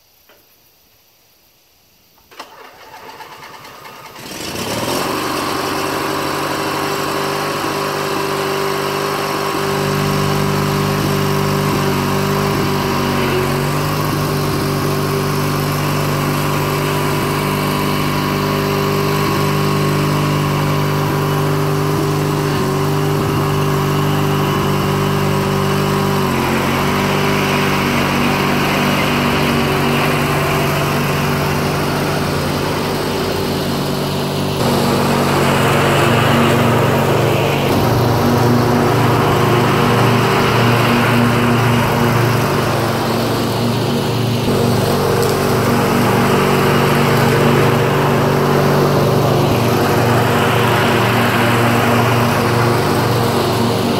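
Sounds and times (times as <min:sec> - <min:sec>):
lawn tractor engine running: 0:02.2 - 0:53.9.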